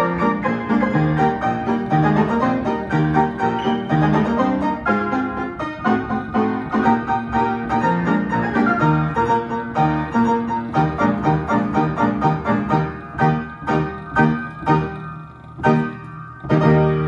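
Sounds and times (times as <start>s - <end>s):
piano playing a march: 0.0s - 17.0s.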